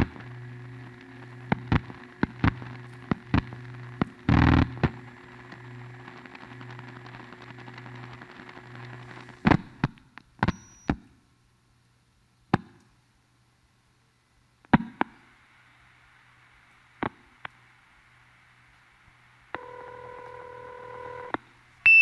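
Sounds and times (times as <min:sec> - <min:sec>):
telephone line hum and hiss: 0:00.0 - 0:11.2, 0:14.9 - 0:22.0.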